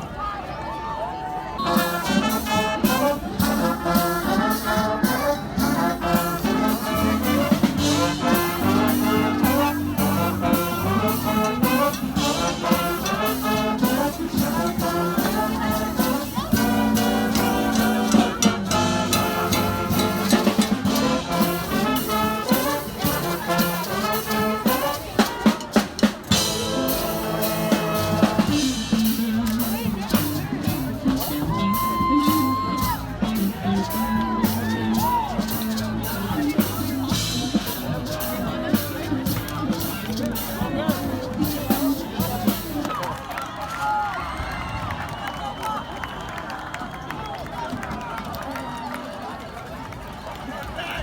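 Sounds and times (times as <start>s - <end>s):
brass band playing: 1.6s - 42.9s.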